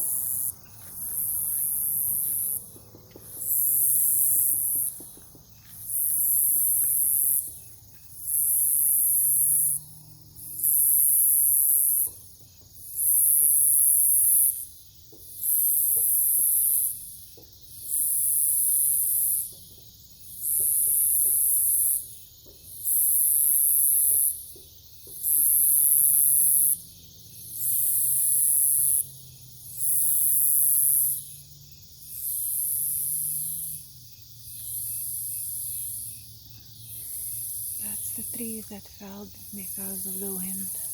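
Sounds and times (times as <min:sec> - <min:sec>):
faint insect chirping: 0:00.0 - 0:40.9.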